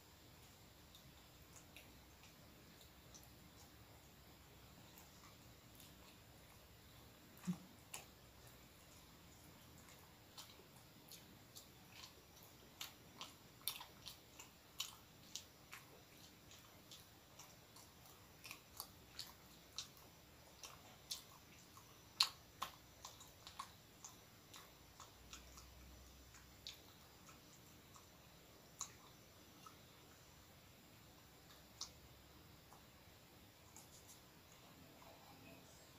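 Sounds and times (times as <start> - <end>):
man chewing mouth clicks: 0.4 - 35.2.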